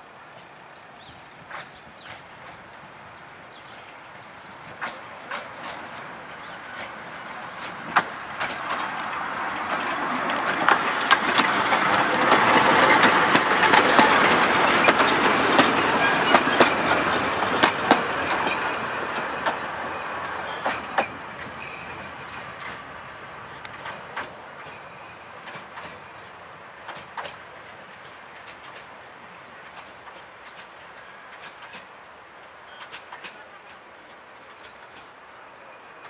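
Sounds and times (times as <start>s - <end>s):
steam train running noise: 0.0s - 36.0s
wheels clicking over rail joints: 0.2s - 35.2s.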